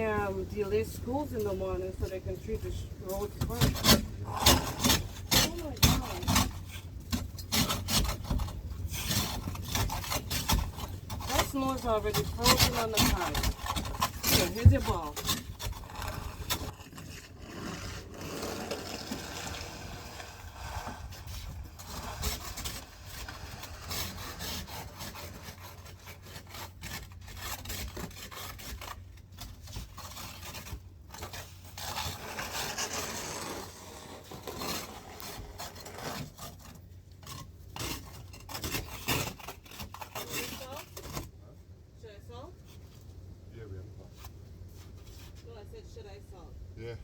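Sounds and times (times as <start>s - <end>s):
scraping snow and ice: 0.0s - 41.3s.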